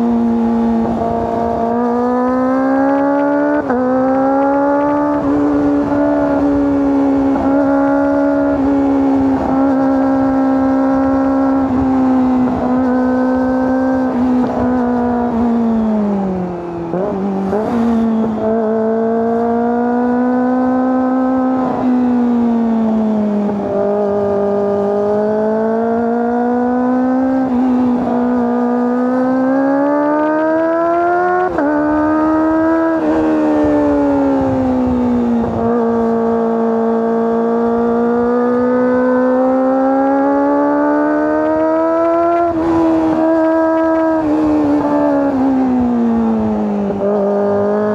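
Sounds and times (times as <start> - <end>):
motorcycle engine at high revs: 0.0 - 47.9.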